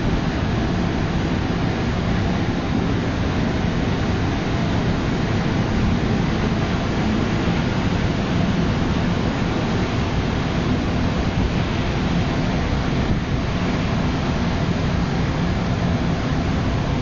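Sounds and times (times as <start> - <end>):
low engine hum: 0.0 - 17.0
rushing wind: 0.0 - 17.0.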